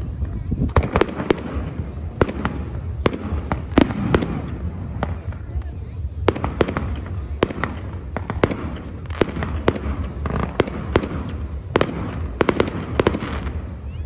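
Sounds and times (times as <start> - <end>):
fireworks bangs: 0.1 - 14.0.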